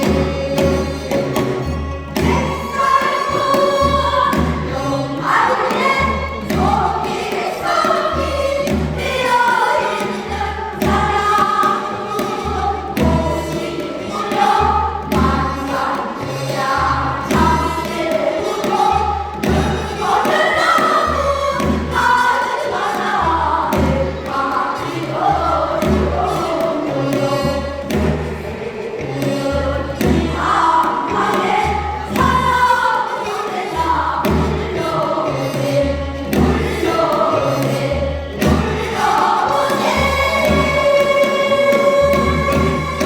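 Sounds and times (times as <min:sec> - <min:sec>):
folk song singing: 0:00.0 - 0:43.0
voices joining in singing: 0:02.2 - 0:43.0.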